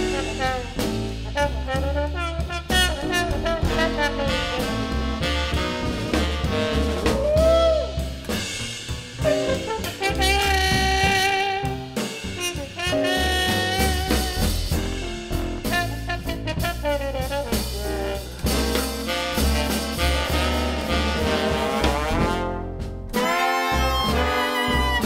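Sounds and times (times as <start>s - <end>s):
jazz band playing: 0.0s - 25.0s.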